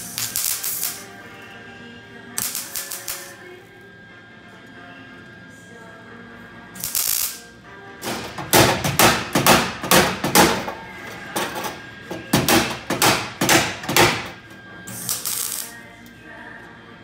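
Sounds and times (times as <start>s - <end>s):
welding arc sizzling: 0.0s - 3.8s, 6.6s - 16.7s
background music: 0.0s - 17.0s.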